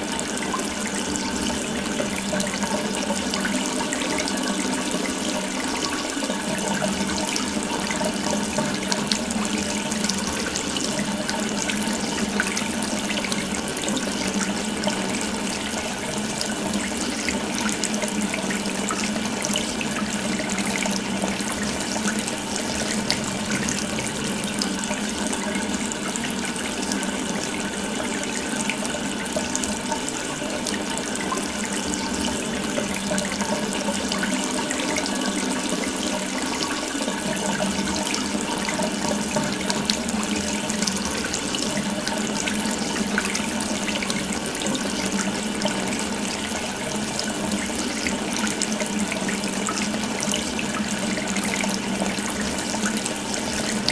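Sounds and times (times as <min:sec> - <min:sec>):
water running from a tap: 0:00.0 - 0:53.9.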